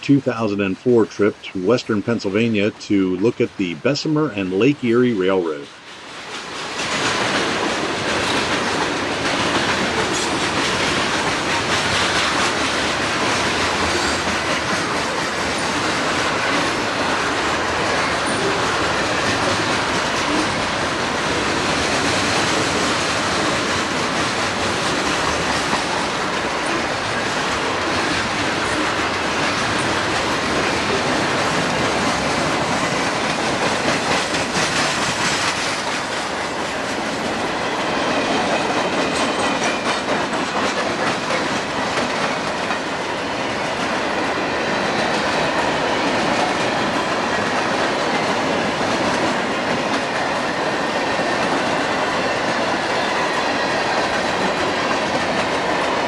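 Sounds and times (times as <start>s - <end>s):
train wheels on rails: 4.1s - 56.0s.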